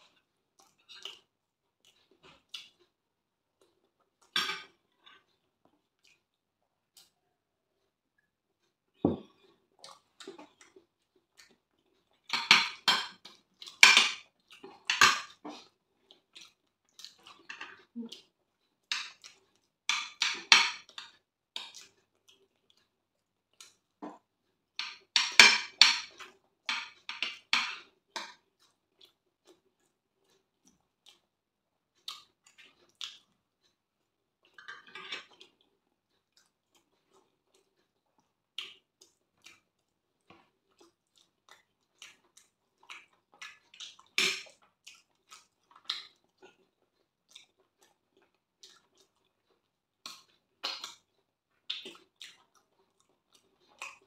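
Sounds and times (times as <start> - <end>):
wet chewing and lip smacking: 0.0 - 20.2, 20.8 - 25.1, 26.1 - 54.0.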